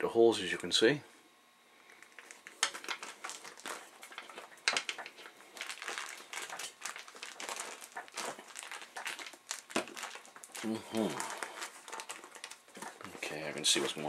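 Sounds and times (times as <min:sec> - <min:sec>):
leather crinkling and rubbing: 0:02.2 - 0:14.0.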